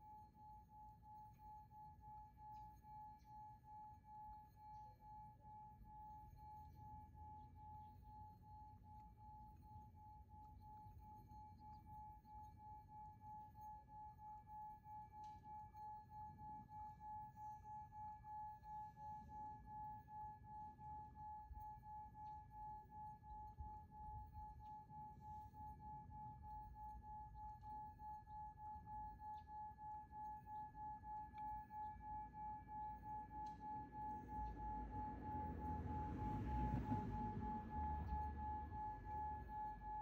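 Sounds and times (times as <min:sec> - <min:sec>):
pulsing ringing meditation tone: 0:00.0 - 0:40.0.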